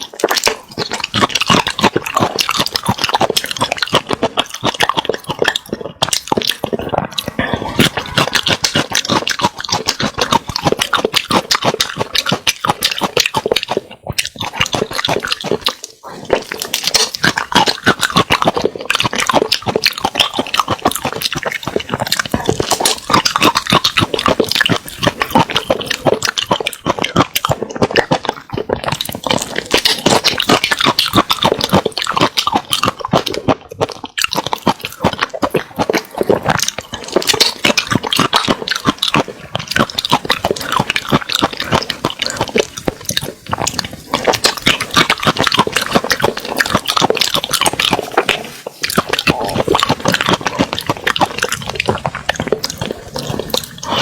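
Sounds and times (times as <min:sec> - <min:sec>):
wet chewing and slurping: 0:00.0 - 0:54.0.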